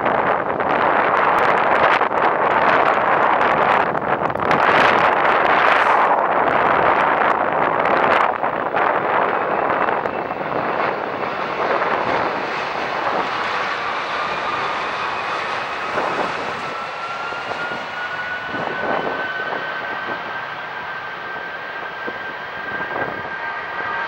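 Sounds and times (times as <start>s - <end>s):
jet engines roaring with whine: 0.0s - 24.0s.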